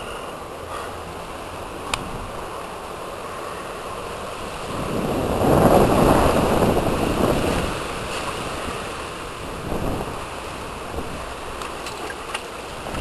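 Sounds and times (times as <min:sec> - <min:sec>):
water sloshing and splashing: 0:01.0 - 0:13.0.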